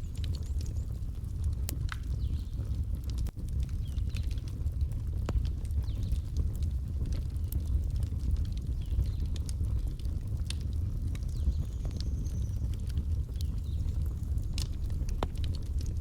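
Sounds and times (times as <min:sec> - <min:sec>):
fire crackling with pops: 0:00.0 - 0:16.0.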